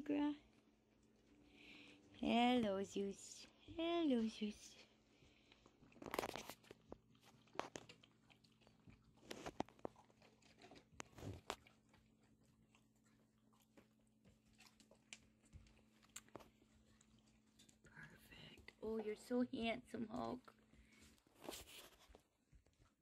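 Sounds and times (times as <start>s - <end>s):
faint steady hum: 0.0s - 22.9s
puppies moving with soft clicks and rustles: 0.0s - 23.0s.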